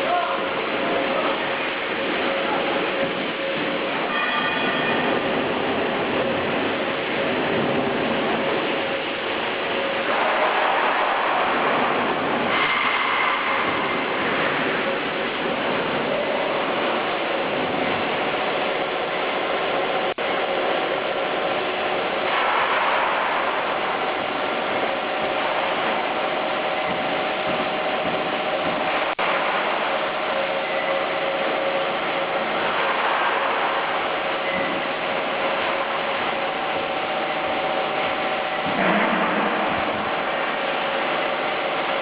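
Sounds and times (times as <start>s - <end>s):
workshop machinery clatter: 0.0s - 42.0s.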